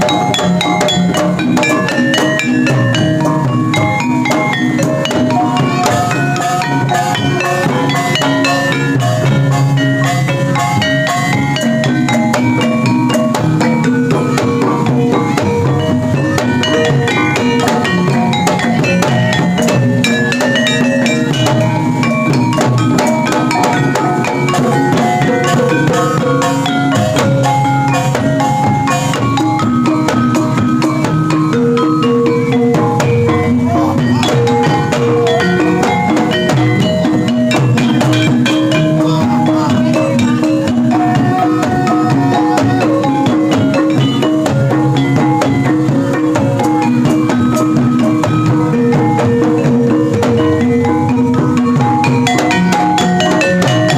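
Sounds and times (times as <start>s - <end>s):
drumming: 0.0s - 53.9s
struck metallophone notes: 0.0s - 53.9s.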